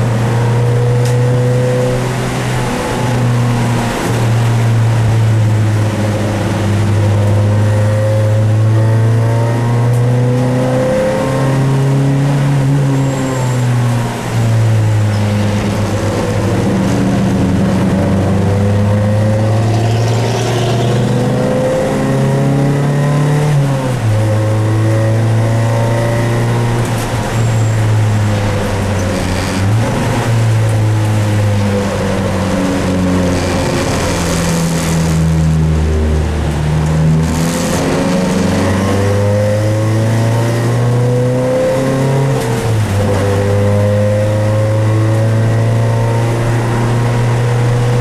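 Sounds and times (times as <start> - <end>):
race car engine from inside cabin: 0.0 - 48.0.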